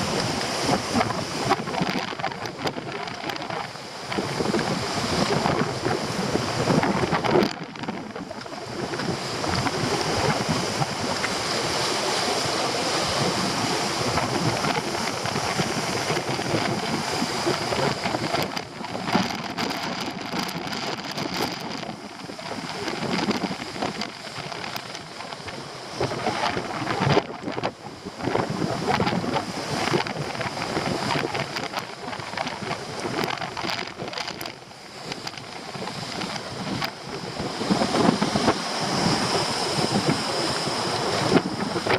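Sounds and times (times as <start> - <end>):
surf breaking on rocks: 0.0 - 41.9
wind buffeting microphone: 0.0 - 41.9.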